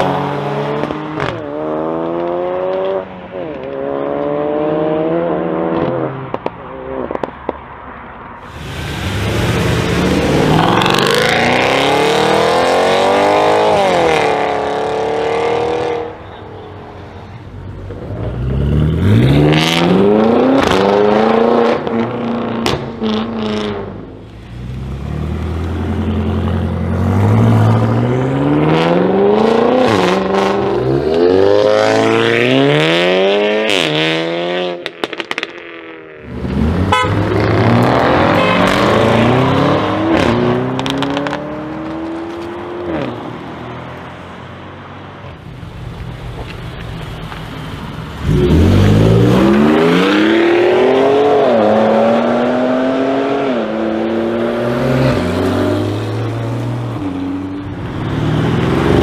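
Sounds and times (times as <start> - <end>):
car engines accelerating hard: 0.0 - 7.3, 8.5 - 16.4, 17.3 - 35.4, 36.2 - 59.0.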